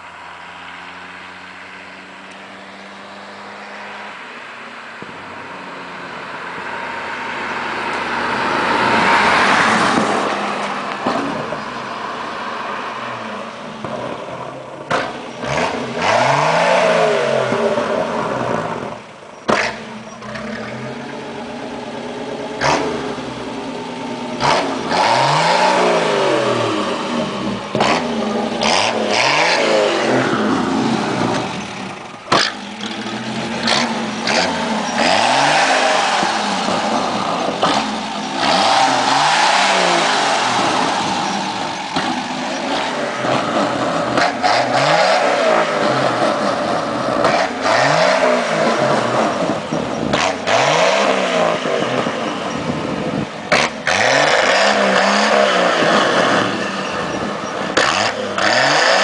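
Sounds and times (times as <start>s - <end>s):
car engine revving: 0.0s - 59.0s
exhaust bangs: 7.7s - 59.0s.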